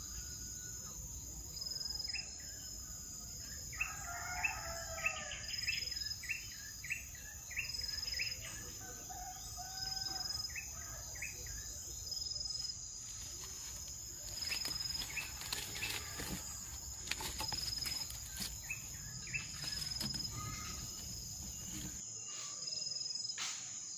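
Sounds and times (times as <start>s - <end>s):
bird chirping: 0.0s - 23.4s
insects droning: 0.0s - 23.9s.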